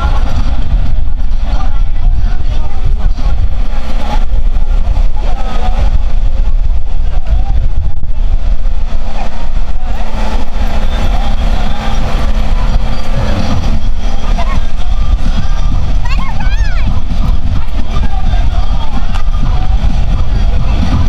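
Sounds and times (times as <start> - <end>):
loud low rumble: 0.0 - 21.0.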